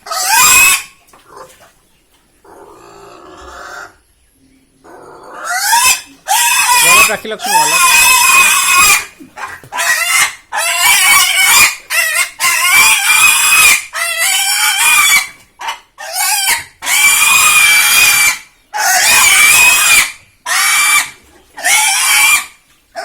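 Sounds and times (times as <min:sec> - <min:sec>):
pig squealing: 0:00.0 - 0:01.6, 0:02.4 - 0:04.0, 0:04.8 - 0:23.0.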